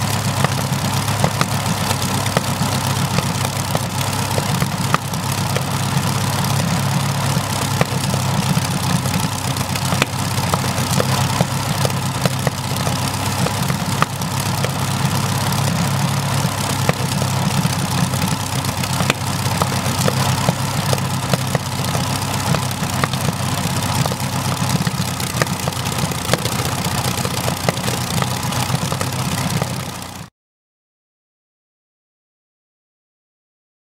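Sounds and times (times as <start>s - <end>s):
aero engine droning: 0.0s - 30.3s
engine sharp pops: 0.0s - 30.3s.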